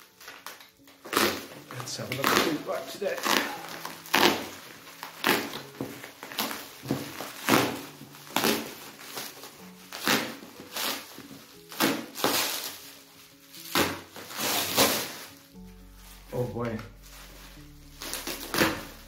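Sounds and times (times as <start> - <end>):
background music with held notes: 0.0 - 19.0
bubble wrap crinkling and tearing: 0.0 - 19.0.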